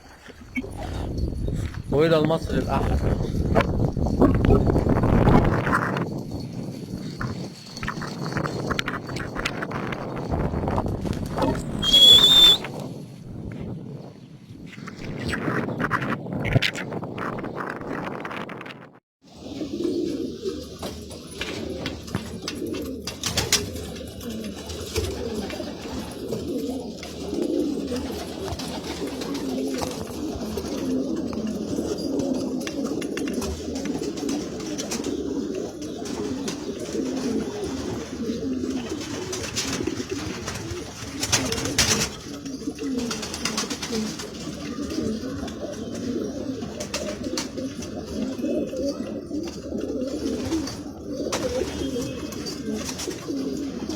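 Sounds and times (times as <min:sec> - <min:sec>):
pigeons cooing: 0:02.3 - 0:12.7, 0:19.3 - 0:53.9.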